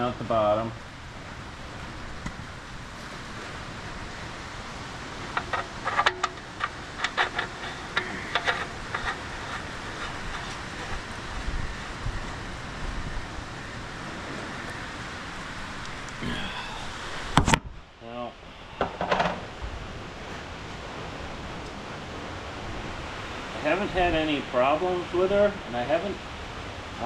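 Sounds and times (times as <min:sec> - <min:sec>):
rain: 0:00.0 - 0:27.0
wind: 0:00.0 - 0:27.0.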